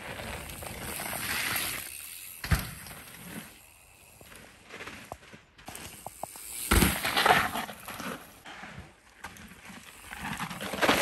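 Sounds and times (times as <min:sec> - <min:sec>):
bike tyres rushing over dirt: 0:00.0 - 0:11.0.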